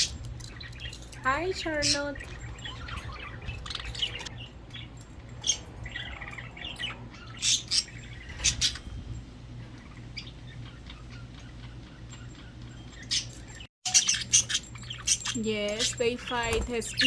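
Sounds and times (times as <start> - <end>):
budgerigars chirping and chattering: 0.0 - 17.0
steady low hum: 0.0 - 17.0.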